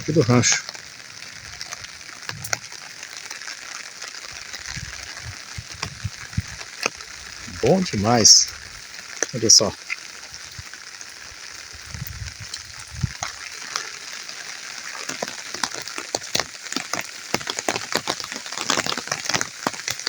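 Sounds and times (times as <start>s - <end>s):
rain hissing with drop strikes: 0.0s - 20.0s.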